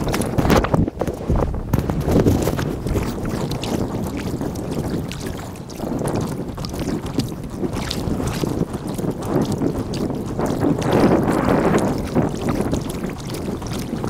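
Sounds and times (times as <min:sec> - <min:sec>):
paddle strokes in water: 0:00.0 - 0:14.0
water splashing against boat: 0:00.0 - 0:14.0
wind buffeting microphone: 0:00.0 - 0:14.0.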